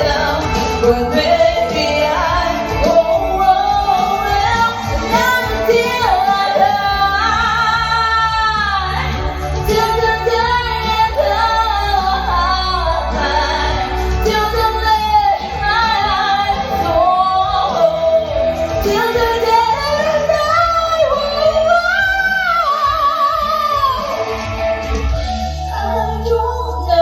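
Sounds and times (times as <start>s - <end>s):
steady musical accompaniment: 0.0s - 27.0s
woman singing pop melody: 0.0s - 27.0s.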